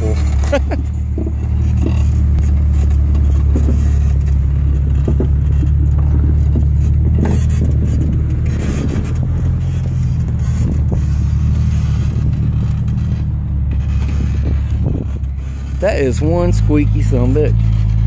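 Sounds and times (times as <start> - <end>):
engine running at low revs: 0.0 - 18.0
suspension creaks and knocks: 0.0 - 18.0.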